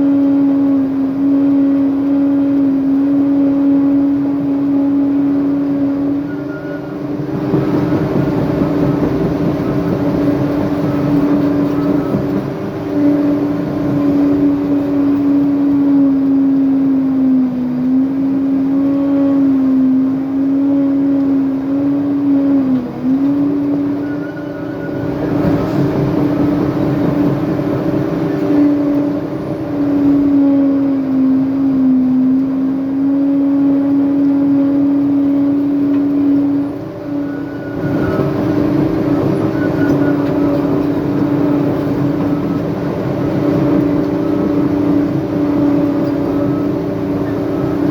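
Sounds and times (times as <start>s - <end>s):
heavy machine diesel engine: 0.0s - 47.9s.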